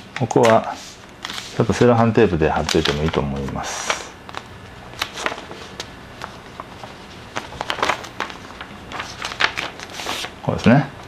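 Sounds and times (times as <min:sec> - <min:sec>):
paper rustling and crinkling: 0:00.3 - 0:10.8.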